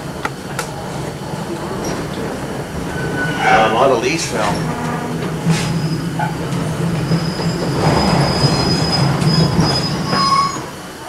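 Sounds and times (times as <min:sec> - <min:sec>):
train wheels rumbling on rail: 0:00.0 - 0:11.0
high wheel squeal: 0:01.8 - 0:10.9.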